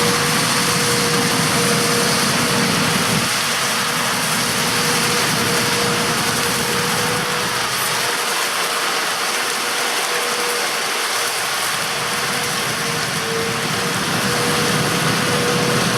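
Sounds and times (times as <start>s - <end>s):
combine harvester clattering: 0.0s - 15.9s
steady mechanical whine: 0.0s - 15.9s.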